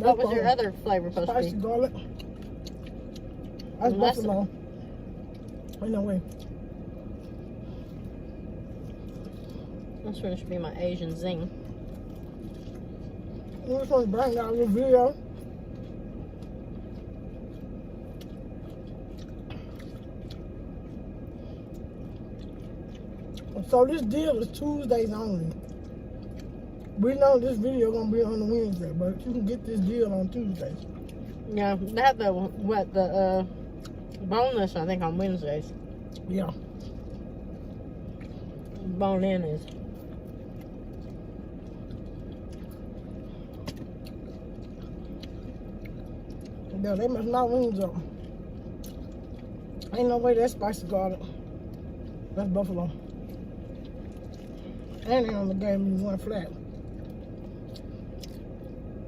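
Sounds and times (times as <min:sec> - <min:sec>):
chewing and crunching: 0:00.0 - 0:59.0
low background hum: 0:00.0 - 0:59.0.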